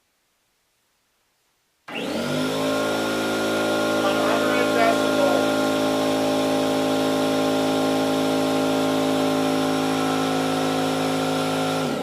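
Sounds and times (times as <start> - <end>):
air compressor running: 1.9 - 12.0.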